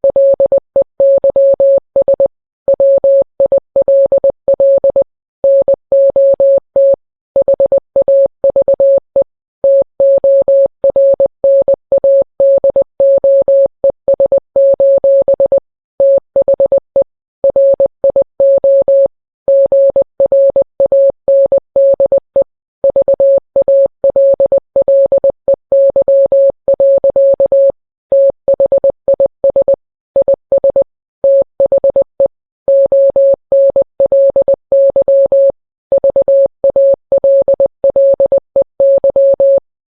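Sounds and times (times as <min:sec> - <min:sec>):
morse code beeps: 0:00.1 - 0:39.7.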